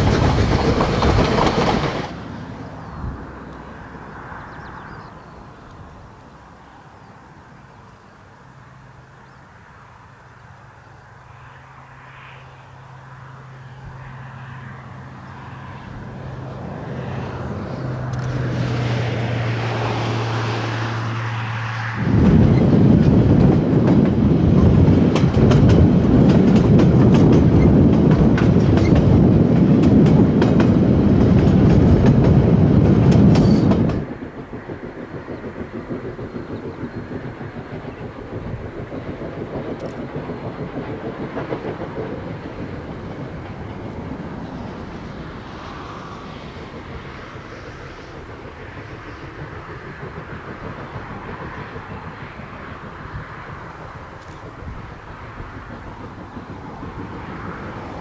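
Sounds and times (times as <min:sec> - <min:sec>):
steam locomotive working hard: 0:00.0 - 0:02.8, 0:13.2 - 0:58.0
dense rushing noise: 0:00.0 - 0:58.0.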